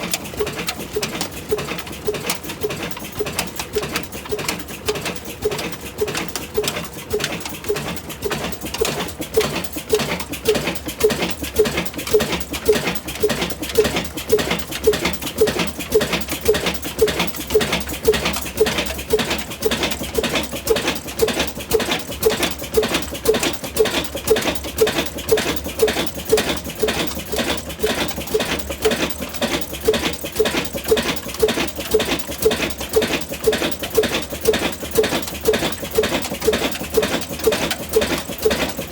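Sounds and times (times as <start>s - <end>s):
old engine thumping slowly: 0.0s - 38.9s.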